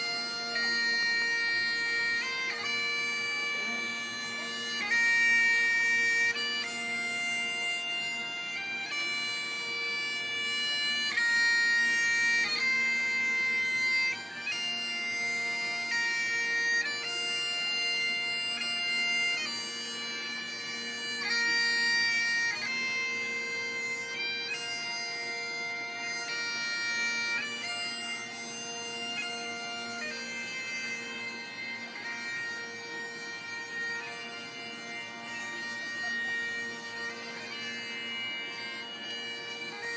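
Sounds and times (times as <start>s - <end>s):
bagpipes playing a tune: 0.0s - 39.9s.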